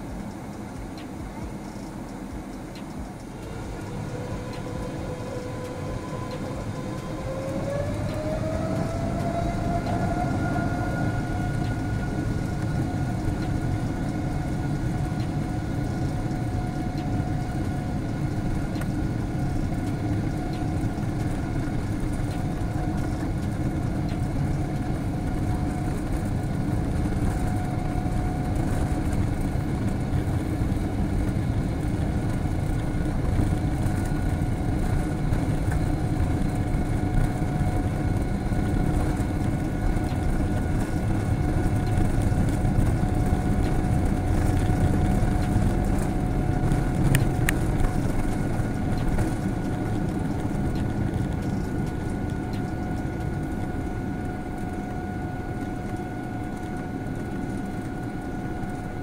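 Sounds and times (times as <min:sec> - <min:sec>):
jet engine rumble and whine: 0:00.0 - 0:59.0.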